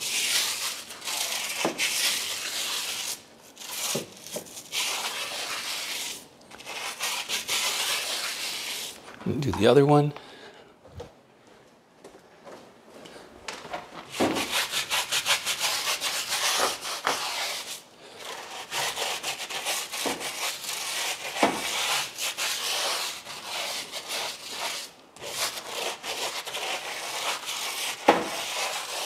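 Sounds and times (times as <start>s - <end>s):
brush scrubbing tire rubber: 0.0s - 9.0s, 14.1s - 29.0s.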